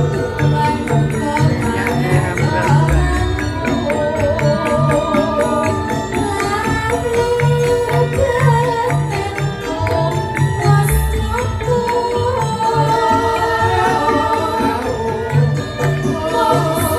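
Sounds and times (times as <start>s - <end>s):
gamelan music: 0.0s - 16.9s.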